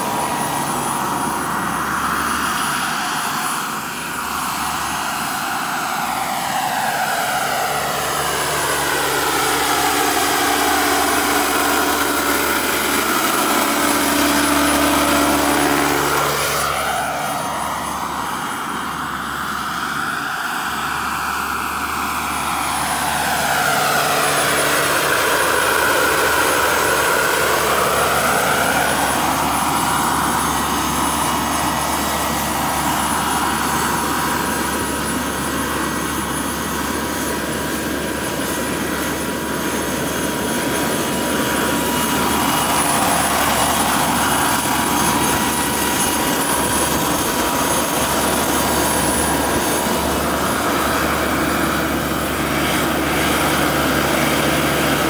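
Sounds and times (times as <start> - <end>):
rushing rotor blades: 0.0 - 55.0.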